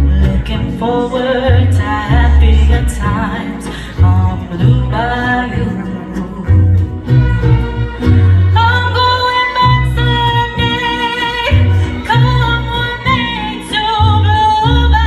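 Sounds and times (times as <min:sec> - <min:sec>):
mariachi band playing: 0:00.0 - 0:15.0.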